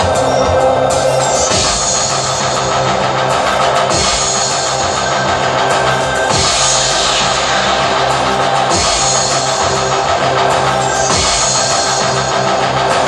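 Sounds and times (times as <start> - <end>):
drum kit: 0.0 - 13.0.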